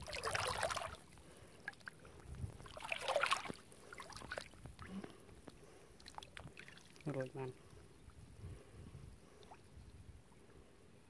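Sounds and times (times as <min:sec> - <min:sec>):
water splashing and sloshing: 0:00.0 - 0:09.8.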